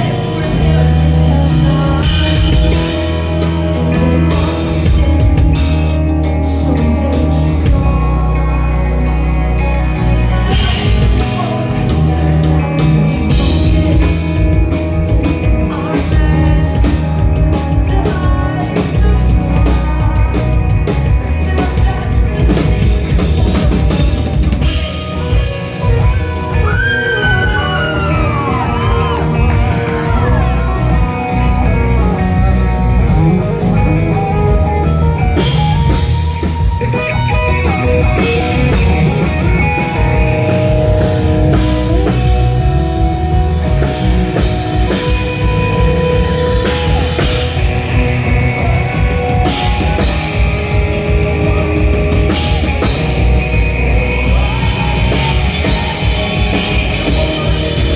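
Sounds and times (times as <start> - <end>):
drum kit: 0.0 - 57.9
guitars: 0.0 - 57.9.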